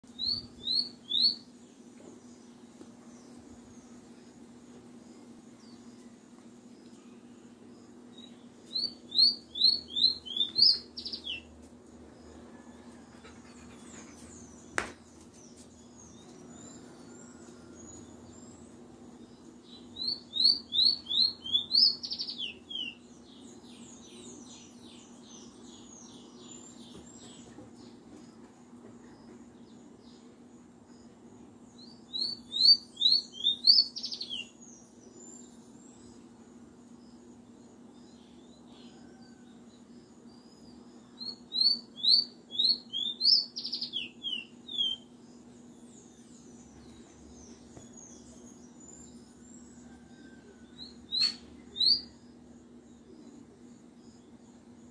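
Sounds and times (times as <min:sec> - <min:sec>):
small bird singing: 0:00.0 - 0:54.9
steady low hum: 0:00.0 - 0:54.9.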